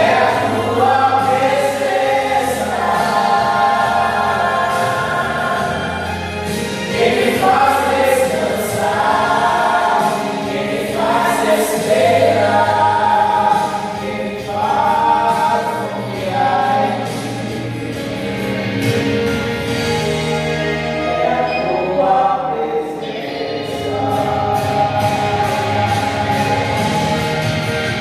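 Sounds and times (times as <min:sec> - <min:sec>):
choir singing a hymn: 0:00.0 - 0:28.0
instrumental accompaniment: 0:00.0 - 0:28.0.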